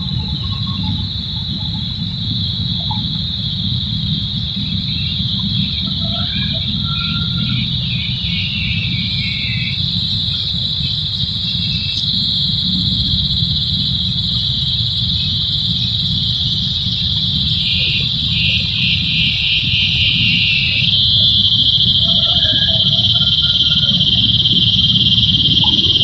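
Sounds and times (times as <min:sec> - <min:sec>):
insects buzzing: 0:00.0 - 0:26.0
pulsing insect chirr: 0:00.0 - 0:26.0.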